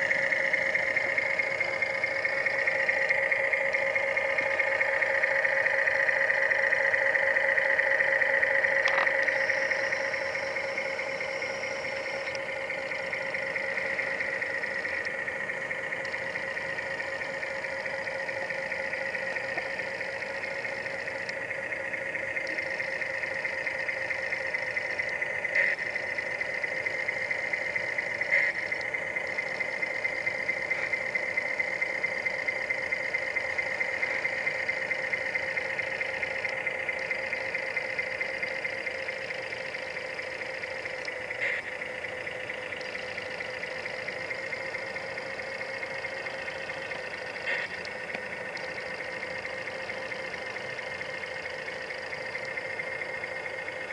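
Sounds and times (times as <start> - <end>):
model truck mechanical hum: 0.0 - 53.9.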